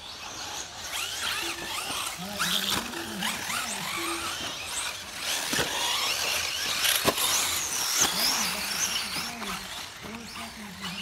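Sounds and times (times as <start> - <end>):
rc buggy motors whining: 0.0 - 11.0.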